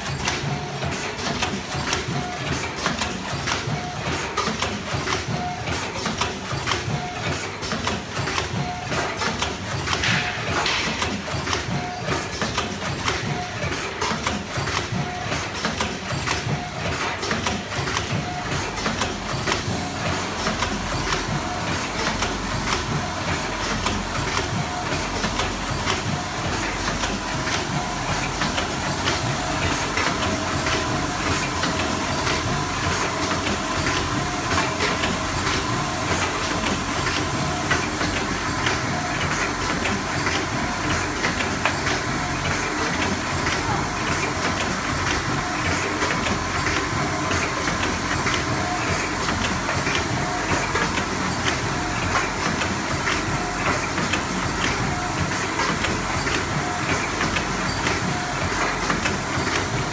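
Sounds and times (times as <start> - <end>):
packing machine clattering clicks: 0.0 - 59.9.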